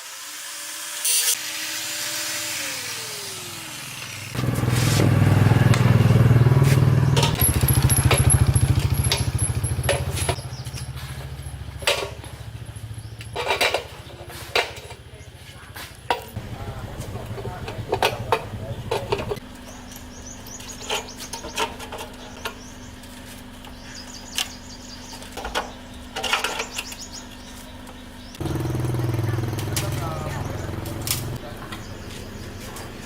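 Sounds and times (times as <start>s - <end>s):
small engine running: 0.0s - 15.0s, 16.1s - 33.0s.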